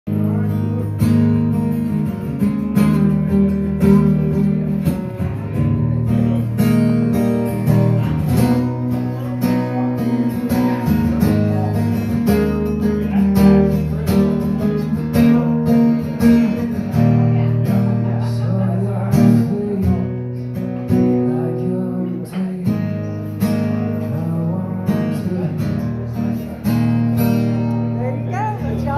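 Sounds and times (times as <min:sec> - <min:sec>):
acoustic guitar strumming: 0:00.1 - 0:28.9.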